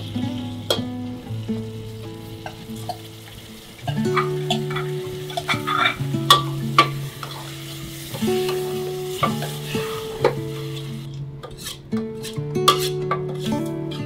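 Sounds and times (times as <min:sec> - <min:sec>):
food sizzling in hot oil: 0:00.0 - 0:13.4
soft background music: 0:00.0 - 0:14.0.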